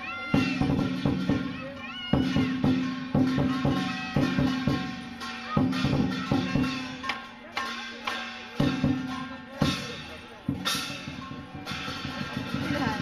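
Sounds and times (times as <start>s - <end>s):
clashing cymbals: 0.0s - 13.0s
drum strikes: 0.0s - 13.0s
gong: 0.3s - 13.0s.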